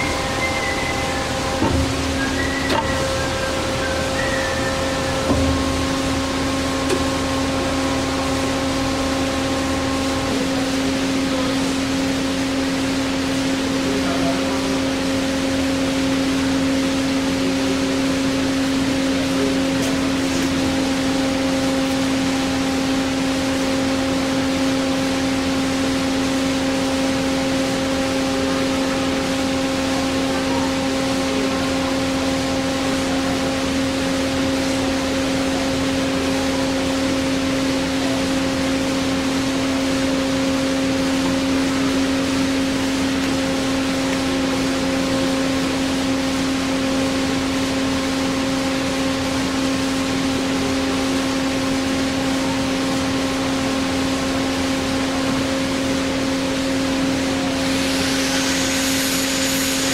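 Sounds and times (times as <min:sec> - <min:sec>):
band saw machine hum: 0:00.0 - 0:59.9.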